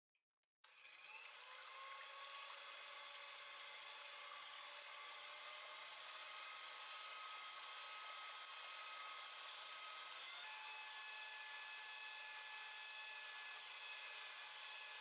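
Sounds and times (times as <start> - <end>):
electric hand mixer whining: 0.7 - 15.0.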